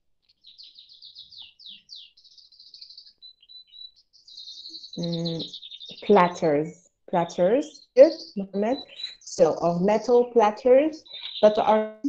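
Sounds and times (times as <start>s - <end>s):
songbird singing: 0.2s - 12.0s.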